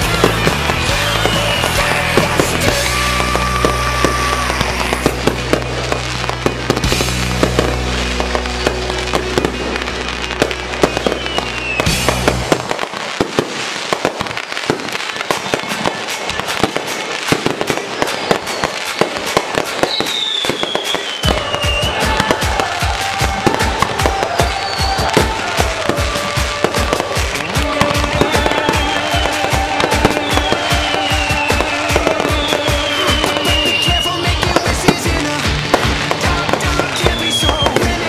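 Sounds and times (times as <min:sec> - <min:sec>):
firework falling whistle: 0:00.0 - 0:38.0
fireworks bangs and crackling: 0:00.0 - 0:38.0
music with steady bass: 0:00.0 - 0:38.0.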